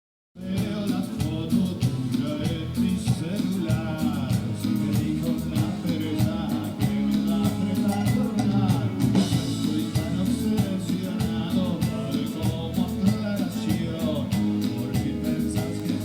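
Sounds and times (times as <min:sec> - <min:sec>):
person singing: 0:00.4 - 0:16.0
rock band playing through speakers: 0:00.4 - 0:16.0.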